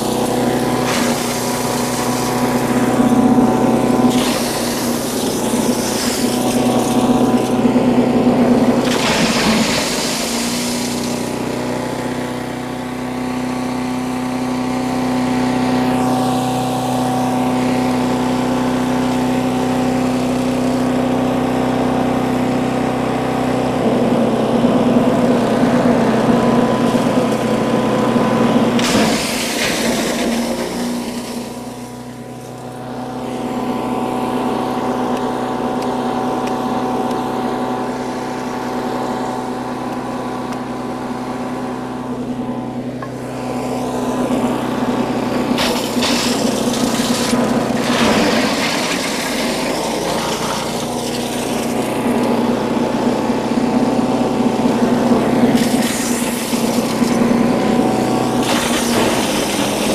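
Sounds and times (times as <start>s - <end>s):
shredder shredding wood: 0.0s - 59.9s
small gas engine running: 0.0s - 59.9s.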